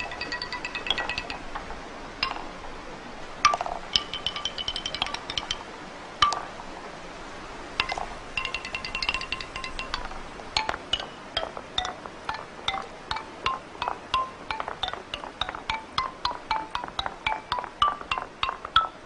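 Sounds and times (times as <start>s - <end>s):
ball clattering down wooden chute: 0.0s - 2.6s, 3.4s - 5.6s, 6.2s - 6.6s, 7.8s - 19.0s
ball striking xylophone bars: 0.0s - 2.6s, 3.4s - 5.6s, 6.2s - 6.6s, 7.8s - 19.0s.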